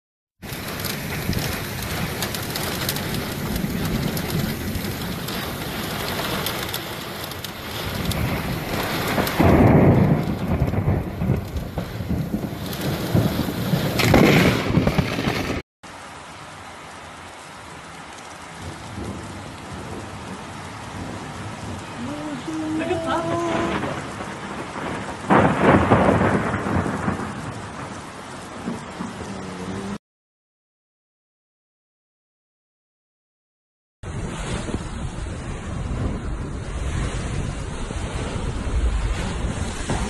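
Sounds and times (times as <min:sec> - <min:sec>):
heavy rain in strong wind: 0:00.4 - 0:30.0, 0:34.0 - 0:40.0.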